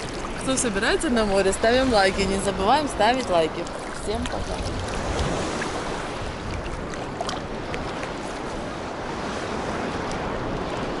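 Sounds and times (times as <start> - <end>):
small waves lapping: 0.0 - 11.0
wind on microphone: 0.0 - 11.0.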